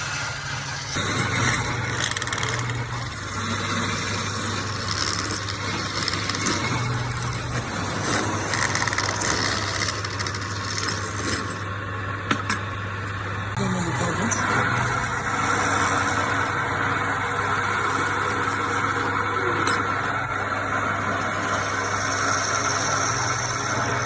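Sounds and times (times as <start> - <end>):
lathe motor hum: 0.0 - 24.0.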